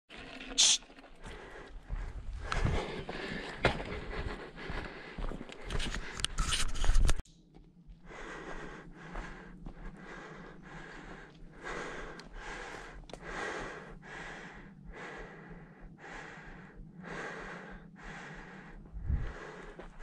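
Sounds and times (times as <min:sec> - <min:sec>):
person breathing hard: 0:01.2 - 0:06.3, 0:08.0 - 0:20.0.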